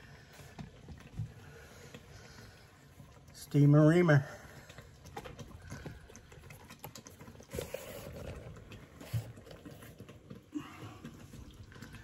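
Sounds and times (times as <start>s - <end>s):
thick filling bubbling in a pot: 0.0s - 12.0s.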